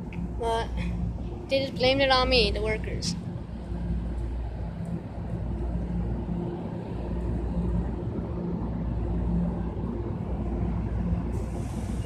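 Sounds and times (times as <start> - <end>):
locomotive droning hum: 0.0 - 12.0
train rumbling: 0.0 - 12.0.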